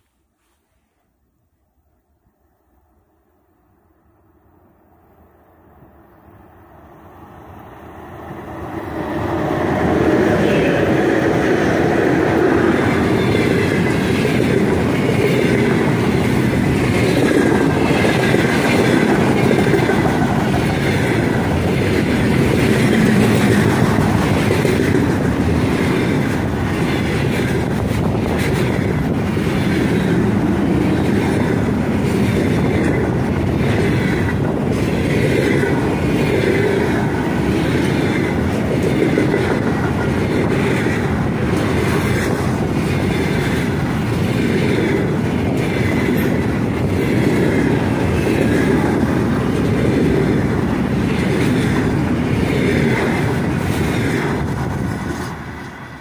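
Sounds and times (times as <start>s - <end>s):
freight train wheels rumbling on rails: 5.8s - 56.0s.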